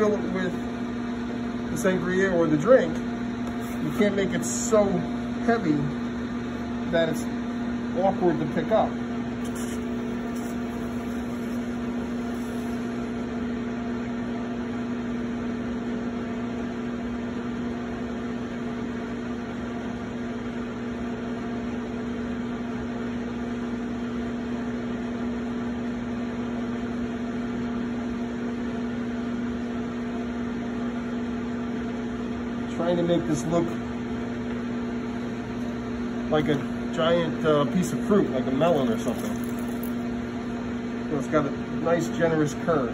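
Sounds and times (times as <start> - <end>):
potter's wheel humming: 0.0 - 42.9.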